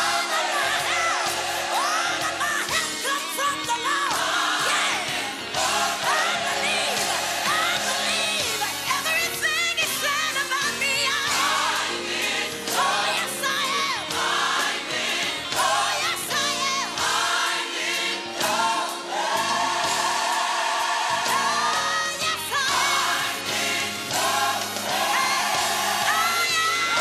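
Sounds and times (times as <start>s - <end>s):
backing track: 0.0s - 27.0s
gospel choir singing: 0.0s - 27.0s.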